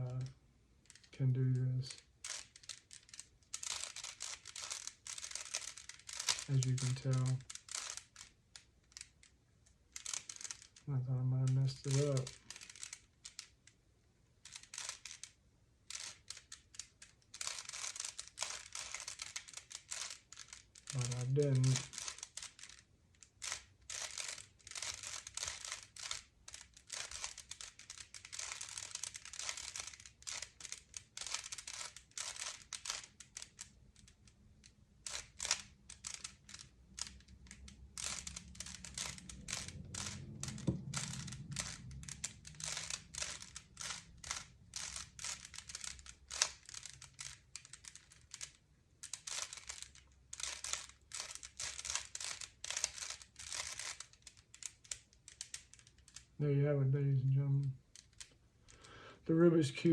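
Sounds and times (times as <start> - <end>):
puzzle cube plastic clicks: 0.2 - 10.8, 11.4 - 56.4, 57.6 - 59.9.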